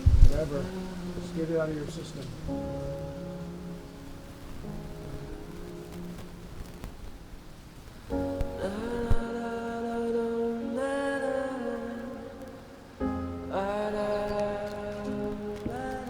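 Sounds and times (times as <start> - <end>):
music of long held chords: 0.0 - 16.0.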